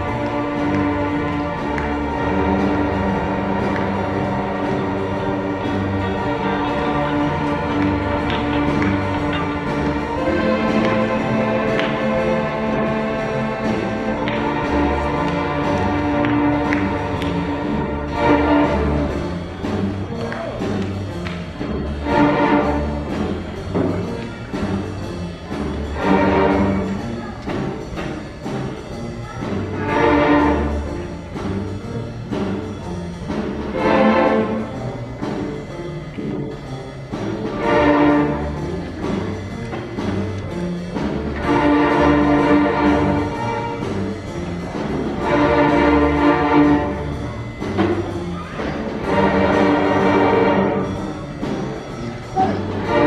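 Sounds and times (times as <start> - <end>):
string orchestra playing: 0.0 - 53.0.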